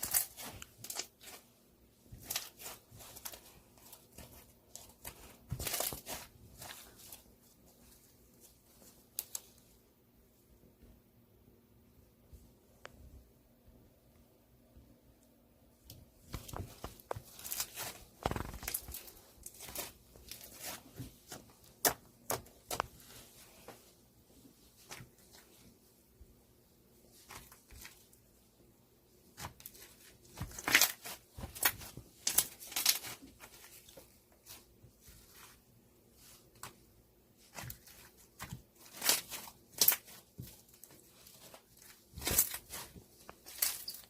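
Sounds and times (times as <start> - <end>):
rustling and crinkling: 0.0 - 11.0, 15.3 - 44.0.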